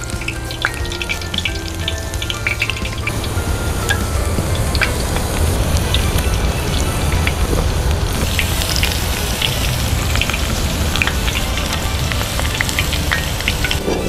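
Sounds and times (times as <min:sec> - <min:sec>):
batter deep-frying in hot oil: 0:00.0 - 0:14.0.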